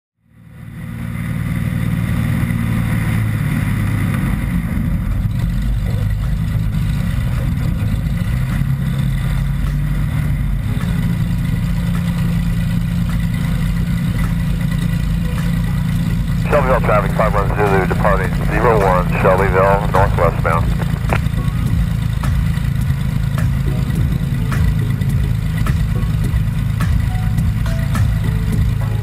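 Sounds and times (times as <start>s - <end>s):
aircraft piston engine and propeller: 0.3s - 29.0s.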